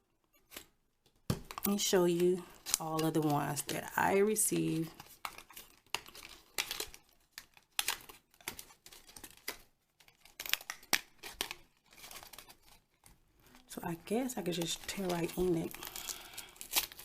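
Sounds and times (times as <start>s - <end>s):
plastic packaging crinkling: 1.4s - 17.0s.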